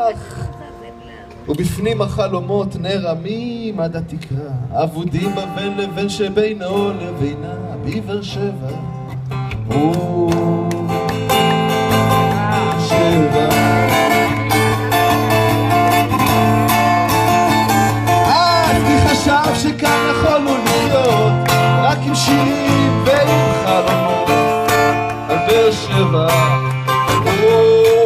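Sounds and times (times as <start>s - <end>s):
acoustic guitar strumming: 4.7s - 28.0s.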